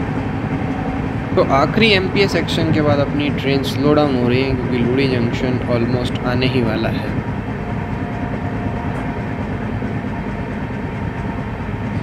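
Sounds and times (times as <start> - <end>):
clickety-clack of train wheels: 0.0 - 12.0
train wheels rumbling on rails: 0.0 - 12.0.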